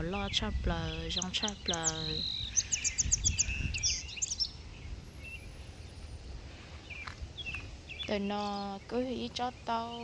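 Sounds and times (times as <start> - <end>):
low steady background noise: 0.0 - 10.0
small songbirds chirping: 0.0 - 10.0.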